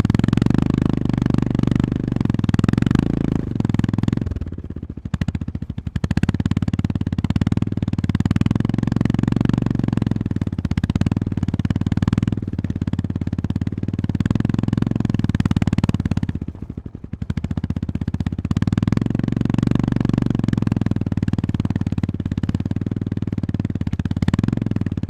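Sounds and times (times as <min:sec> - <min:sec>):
single-cylinder engine running: 0:00.0 - 0:25.0.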